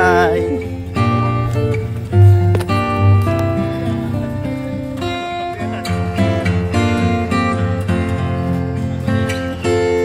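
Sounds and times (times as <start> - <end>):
guitar tune: 0.0 - 10.0.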